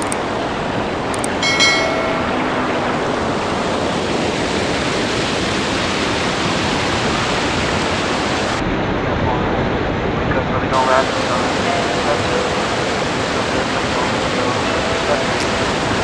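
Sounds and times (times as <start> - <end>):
waterfall rushing over rocks: 0.0 - 8.6, 10.8 - 16.0.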